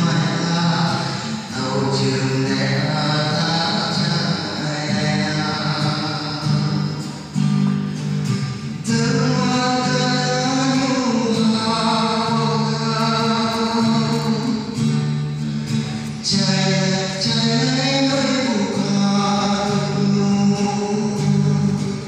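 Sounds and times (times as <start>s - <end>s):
man singing into microphone: 0.0s - 7.4s, 8.6s - 22.0s
guitar accompaniment: 0.0s - 22.0s.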